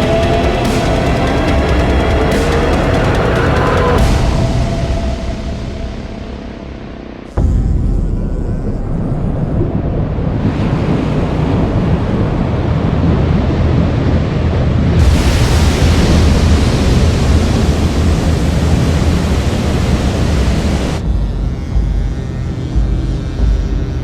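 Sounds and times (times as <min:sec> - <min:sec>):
surf breaking: 0:00.0 - 0:21.0.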